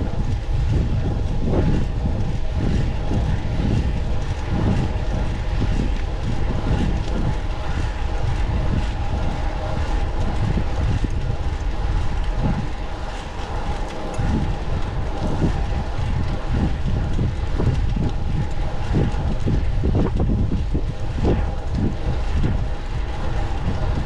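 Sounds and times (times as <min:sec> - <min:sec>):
bicycle tyres on road: 0:00.0 - 0:24.0
faint steady hum: 0:00.0 - 0:24.0
wind on microphone: 0:00.0 - 0:24.0.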